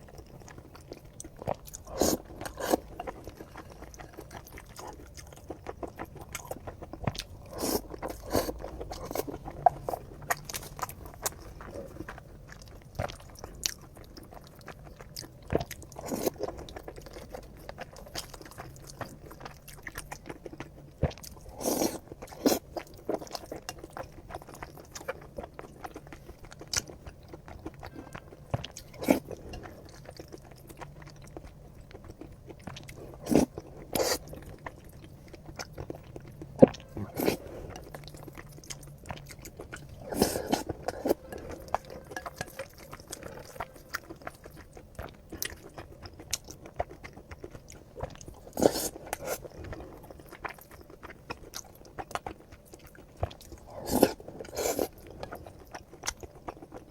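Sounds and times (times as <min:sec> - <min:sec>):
person chewing and crunching: 0:00.0 - 0:56.9.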